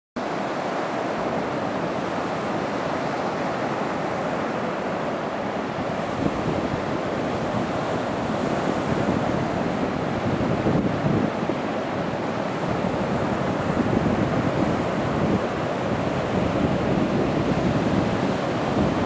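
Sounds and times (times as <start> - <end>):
waves breaking on a beach: 0.2 - 19.0
wind buffeting the microphone: 0.2 - 19.0.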